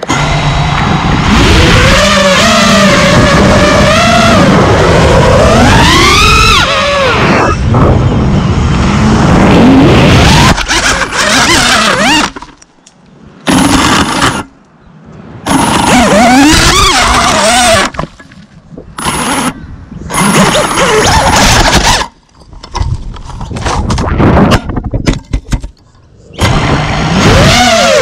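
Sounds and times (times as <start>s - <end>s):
drone motors whining: 0.0s - 24.5s, 26.1s - 28.0s.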